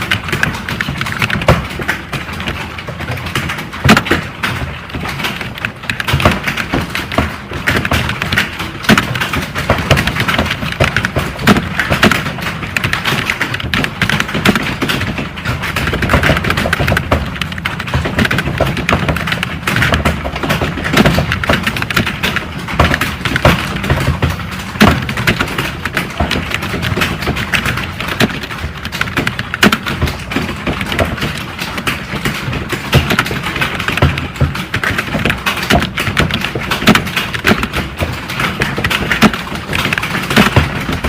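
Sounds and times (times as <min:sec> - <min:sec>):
computer keyboard typing: 0:00.0 - 0:41.0.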